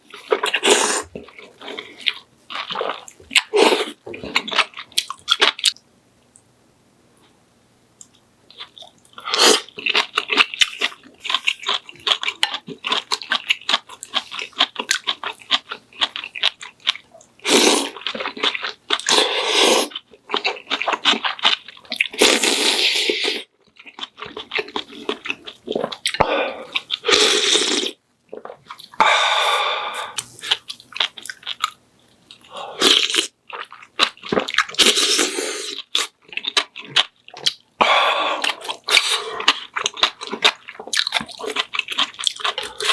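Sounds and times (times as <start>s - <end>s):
person chewing crunchy food: 0.0s - 5.8s, 8.0s - 42.9s.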